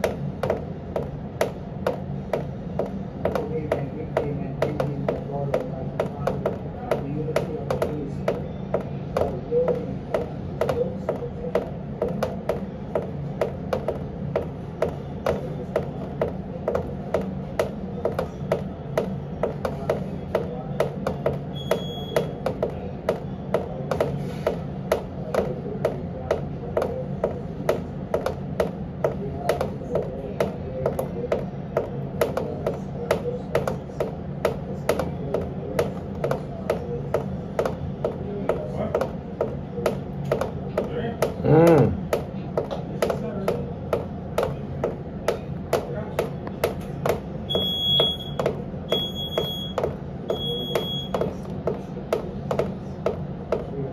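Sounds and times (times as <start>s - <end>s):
air conditioner humming: 0.0s - 53.9s.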